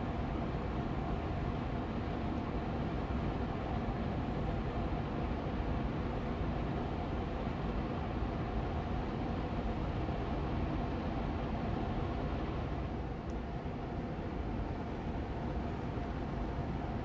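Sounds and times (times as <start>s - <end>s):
air purifier fan humming: 0.0s - 17.0s.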